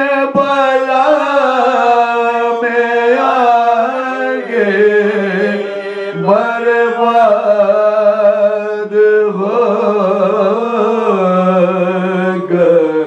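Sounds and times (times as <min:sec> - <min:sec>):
men chanting mournful elegy: 0:00.0 - 0:13.0.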